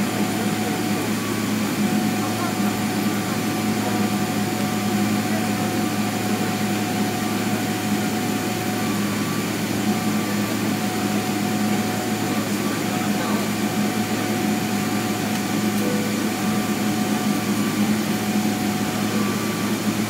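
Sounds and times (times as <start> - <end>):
aircraft engines idling: 0.0 - 20.0
steady whining tones: 0.0 - 20.0.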